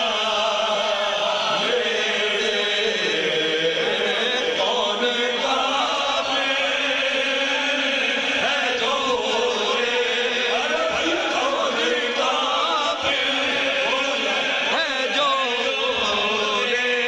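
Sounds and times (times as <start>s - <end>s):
men chanting devotional song: 0.0s - 17.0s.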